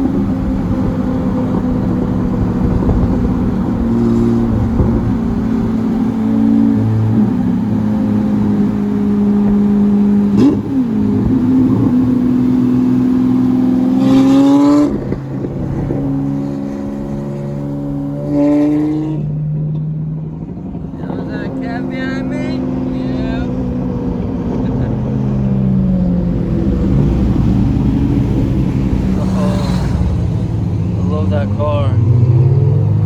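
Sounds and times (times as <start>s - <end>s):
sports car engines revving: 0.0s - 33.0s.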